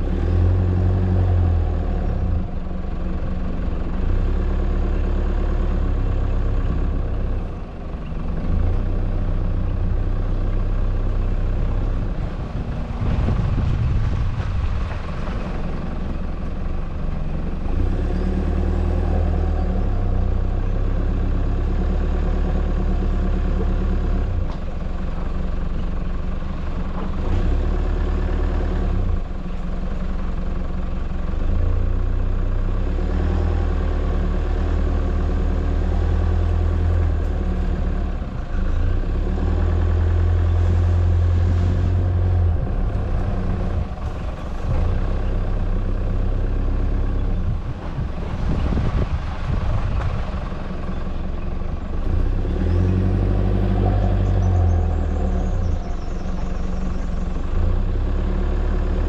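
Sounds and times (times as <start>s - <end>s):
vehicle engine driving slowly: 0.0s - 59.0s.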